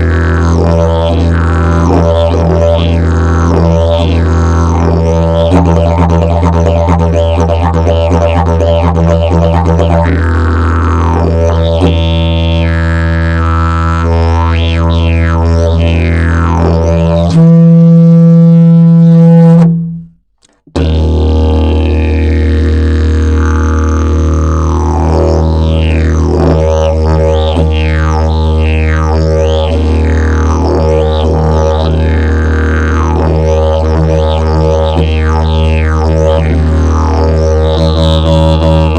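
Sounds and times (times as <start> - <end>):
didgeridoo low drone: 0.0 - 20.0, 20.7 - 38.9.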